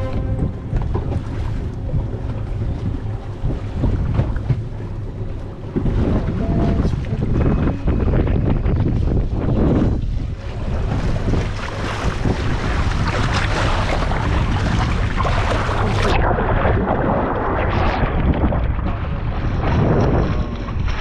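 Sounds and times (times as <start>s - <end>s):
water rushing: 0.0s - 21.0s
wind buffeting microphone: 0.0s - 21.0s.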